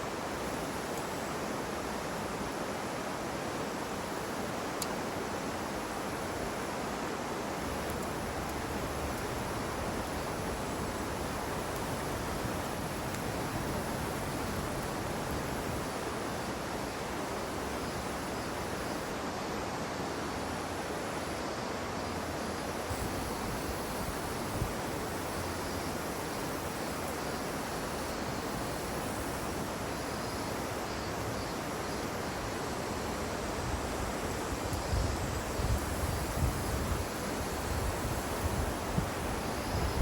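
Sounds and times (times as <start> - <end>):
wind hiss: 0.0 - 40.0.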